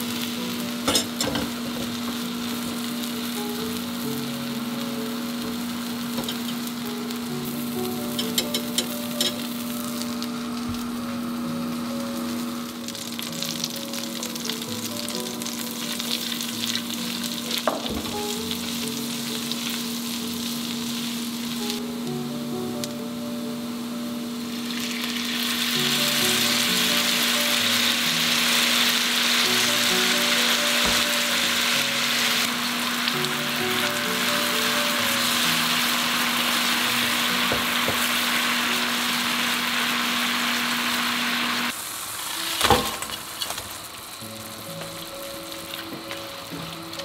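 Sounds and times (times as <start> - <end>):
garlic sizzling in a frying pan: 0.0 - 47.0.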